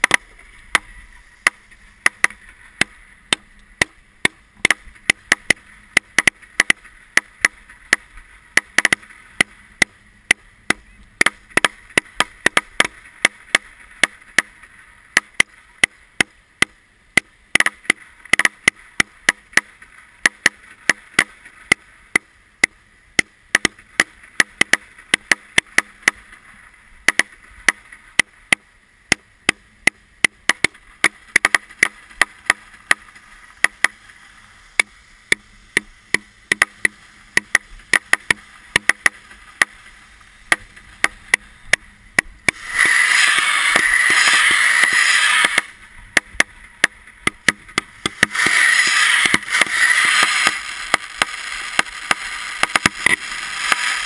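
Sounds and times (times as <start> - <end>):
fireworks cracking: 0.0 - 16.0, 17.5 - 22.2, 23.2 - 28.6, 30.5 - 54.0.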